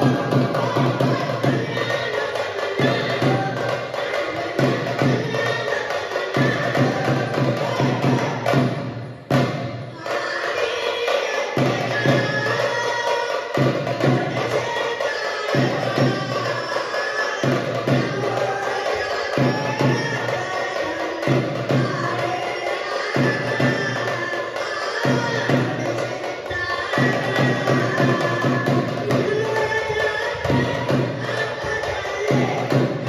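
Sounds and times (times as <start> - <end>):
music with percussion and steady beat: 0.0 - 33.0.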